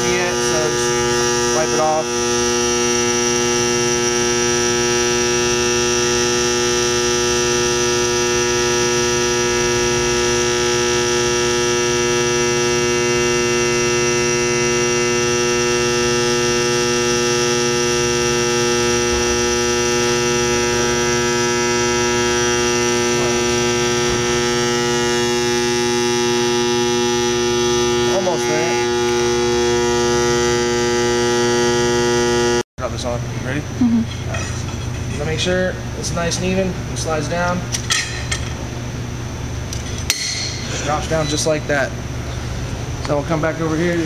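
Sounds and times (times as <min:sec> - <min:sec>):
induction heater electrical hum: 0:00.0 - 0:44.0.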